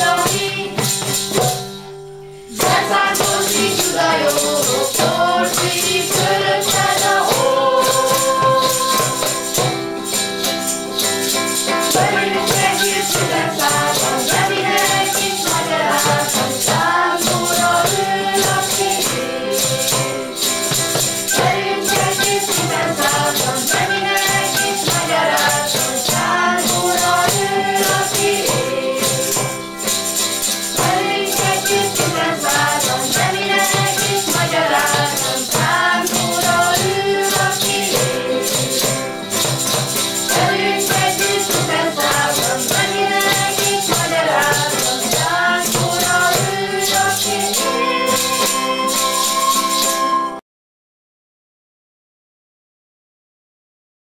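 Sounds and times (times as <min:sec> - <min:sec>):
rattle shaken in time: 0:00.0 - 0:01.9, 0:02.5 - 0:50.1
strummed acoustic guitars: 0:00.0 - 0:50.4.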